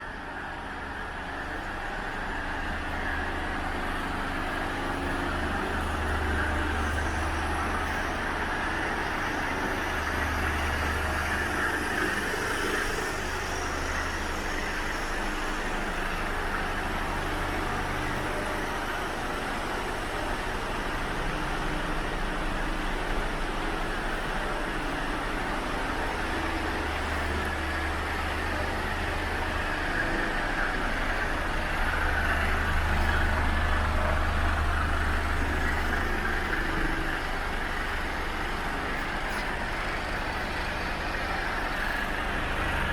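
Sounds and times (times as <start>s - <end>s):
heavy vehicle engine drone: 0.0s - 42.9s
road noise hiss: 0.1s - 42.9s.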